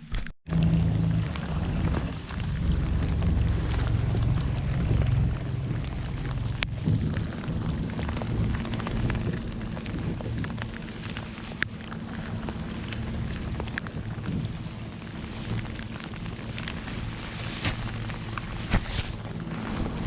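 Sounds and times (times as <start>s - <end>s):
heavy rain falling: 0.5s - 20.0s
low steady rumble: 0.5s - 20.0s
raindrops ticking near microphone: 0.5s - 20.0s.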